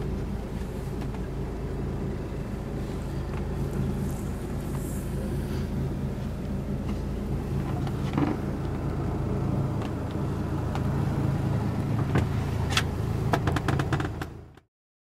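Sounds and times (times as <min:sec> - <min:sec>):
diesel engine idling: 0:00.0 - 0:14.6.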